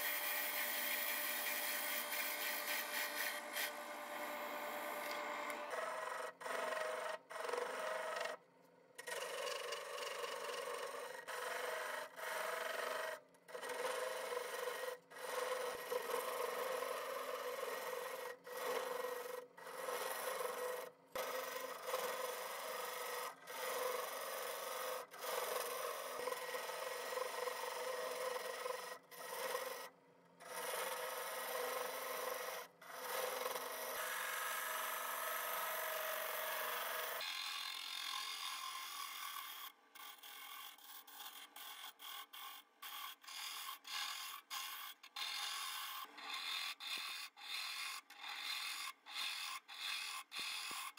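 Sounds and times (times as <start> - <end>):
lathe gouge scraping wood: 0.0 - 8.4, 9.0 - 34.5, 38.0 - 50.9.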